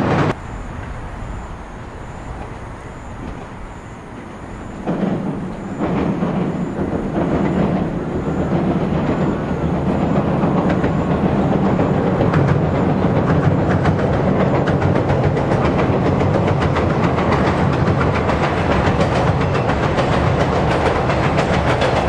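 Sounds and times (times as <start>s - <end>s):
train rumbling over bridge: 0.0s - 22.0s
train wheel clicks: 0.0s - 22.0s.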